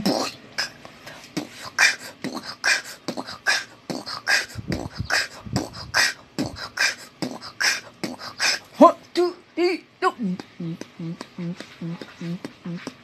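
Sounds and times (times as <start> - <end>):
person beatboxing: 0.0 - 8.8, 10.2 - 13.0.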